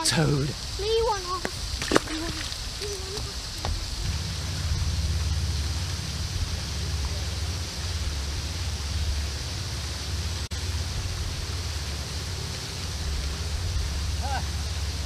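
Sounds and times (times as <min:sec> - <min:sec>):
steady high hiss: 0:00.0 - 0:15.0
wind rumbling on microphone: 0:00.0 - 0:15.0.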